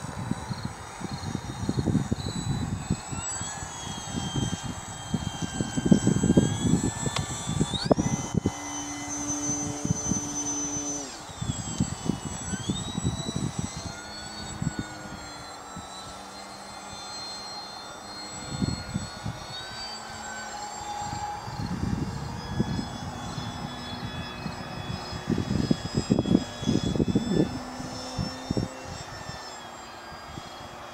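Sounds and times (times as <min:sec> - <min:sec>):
wind rumble on microphone: 0:00.0 - 0:16.2, 0:18.3 - 0:19.8, 0:20.8 - 0:29.4
model plane motor whining: 0:00.0 - 0:30.9.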